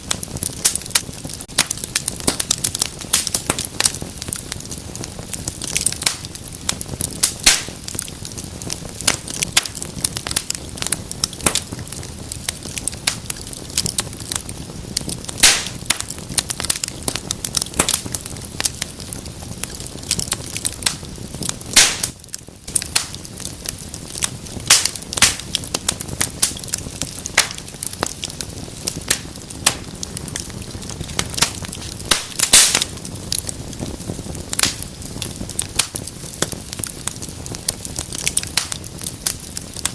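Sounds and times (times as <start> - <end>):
fire hissing: 0.0 - 39.9
wood fire crackling and popping: 0.0 - 39.9.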